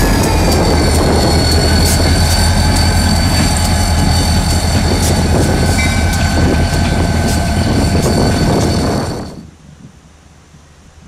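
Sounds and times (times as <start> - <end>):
wheels clicking on track: 0.0 - 9.4
diesel locomotive engines rumbling: 0.0 - 9.6
steady high whine: 0.0 - 9.6.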